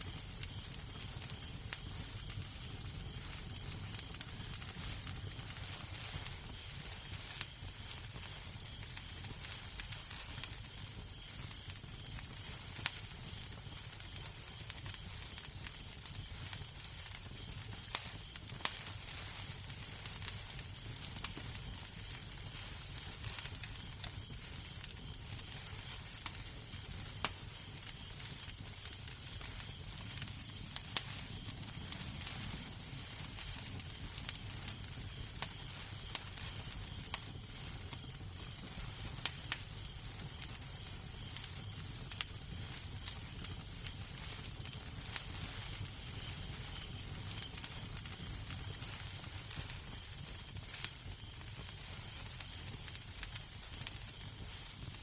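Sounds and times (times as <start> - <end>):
fire pops and snaps: 0.0 - 55.0
wood fire crackling: 0.0 - 55.0.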